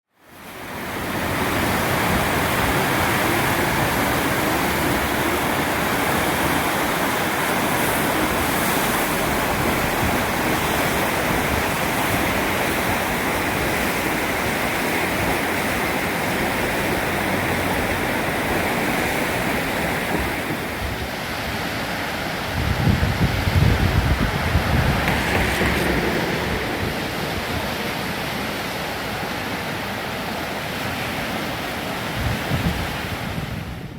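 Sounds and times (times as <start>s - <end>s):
creek water rushing: 0.1s - 33.5s.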